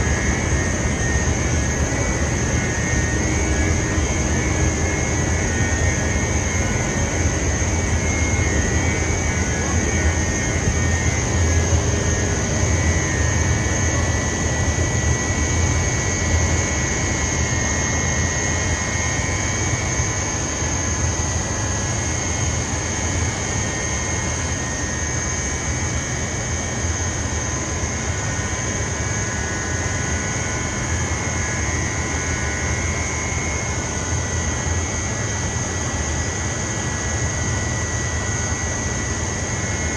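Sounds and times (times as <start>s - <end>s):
industrial machinery hum: 0.0s - 39.9s
steady high whine: 0.0s - 39.9s.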